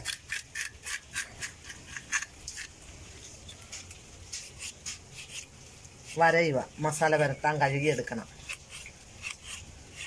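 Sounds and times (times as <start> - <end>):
knife scraping fish skin: 0.0 - 2.8, 3.7 - 6.3, 7.2 - 10.0.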